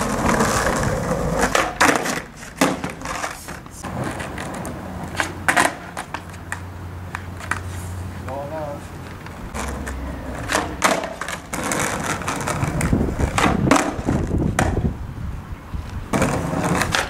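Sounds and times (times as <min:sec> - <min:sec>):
skateboard clacks: 0:00.0 - 0:07.8, 0:09.0 - 0:14.8, 0:16.1 - 0:17.0
skateboard wheels rolling on asphalt: 0:00.0 - 0:17.0.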